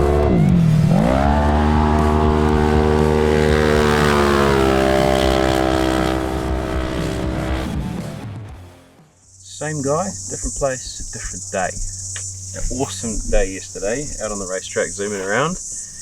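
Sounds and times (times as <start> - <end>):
off-road vehicle engine revving: 0.0 - 9.0, 9.6 - 16.0.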